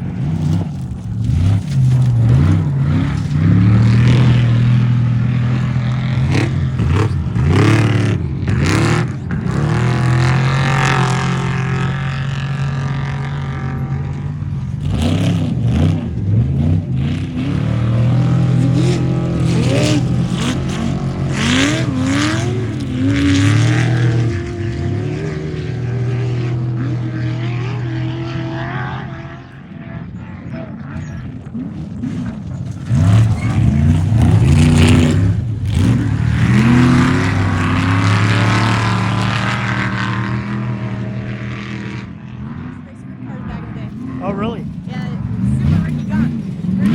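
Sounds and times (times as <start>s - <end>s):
racing engines revving: 0.0s - 46.9s.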